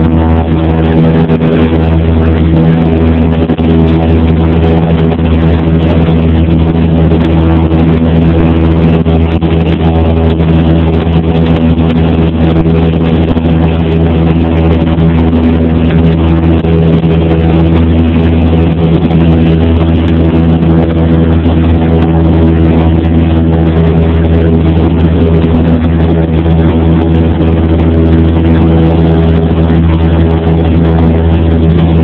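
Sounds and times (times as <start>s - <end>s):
aircraft engine and propeller droning: 0.0s - 32.0s.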